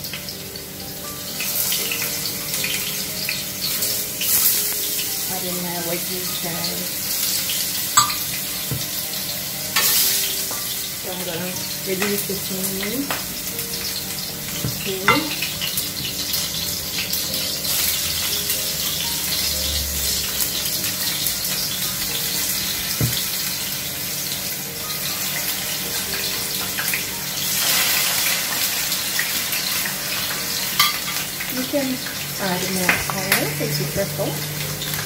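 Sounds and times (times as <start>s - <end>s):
potato wedges sizzling in oil: 0.0s - 35.0s.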